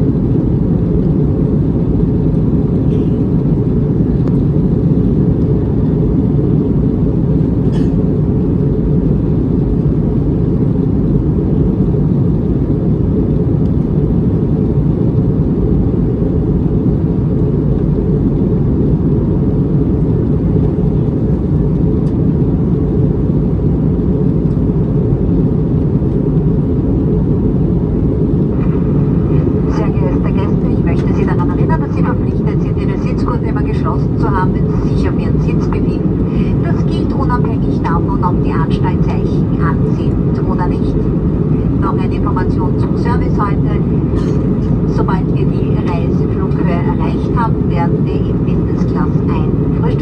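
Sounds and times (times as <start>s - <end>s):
aircraft cabin engine drone: 0.0s - 50.0s.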